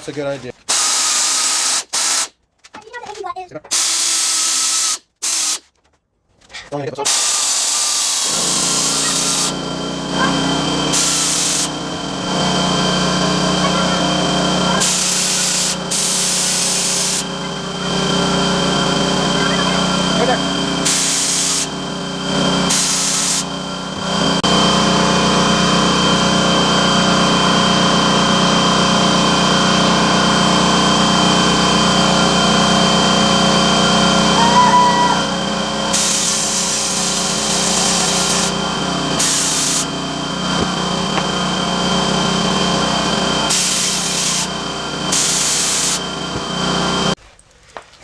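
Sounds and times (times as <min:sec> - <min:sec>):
electric grinder running: 0:00.7 - 0:02.3, 0:07.0 - 0:47.2
grinding wheel hissing on steel: 0:00.7 - 0:02.3, 0:03.7 - 0:05.6, 0:07.0 - 0:47.2.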